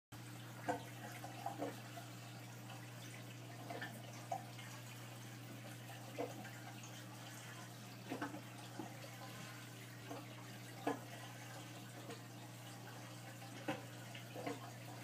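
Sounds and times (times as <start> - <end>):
aquarium filter hum: 0.2 - 15.0
water trickling and gurgling: 0.2 - 15.0.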